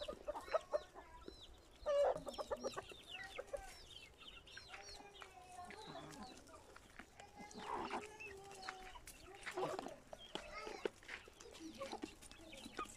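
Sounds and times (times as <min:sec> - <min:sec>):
chickens clucking: 0:00.0 - 0:12.9.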